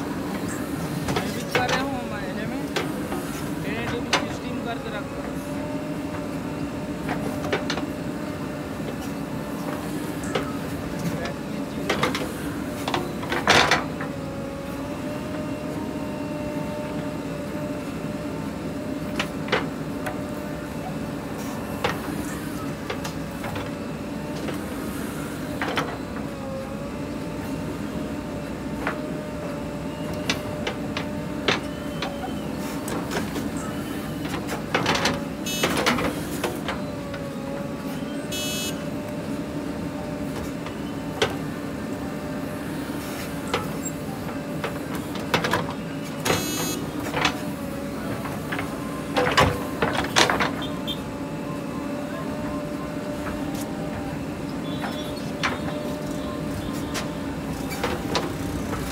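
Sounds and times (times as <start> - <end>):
diesel engine under load: 0.0 - 58.9
whining hydraulic pump: 0.0 - 58.9.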